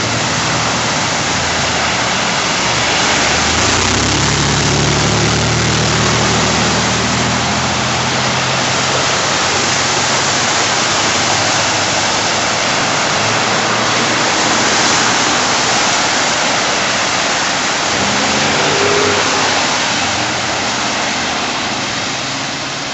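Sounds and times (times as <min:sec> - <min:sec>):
engines running: 0:00.0 - 0:22.9
tyres throwing up water spray: 0:00.0 - 0:22.9.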